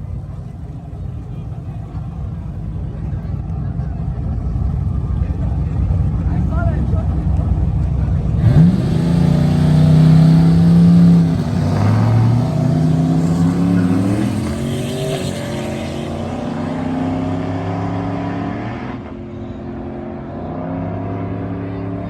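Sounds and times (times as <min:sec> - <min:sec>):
vehicle engine revving: 0:00.2 - 0:22.0.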